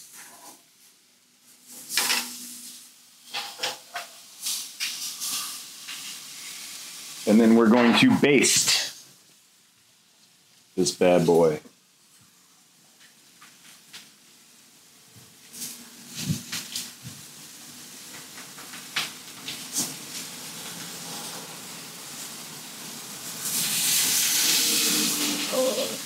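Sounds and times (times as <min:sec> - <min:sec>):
liquid sizzling on grill: 0:00.0 - 0:26.0.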